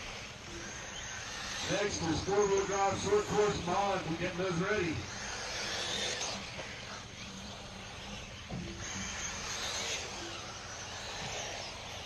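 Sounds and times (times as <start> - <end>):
background noise: 0.0 - 12.0
electric motors whining: 0.0 - 12.0.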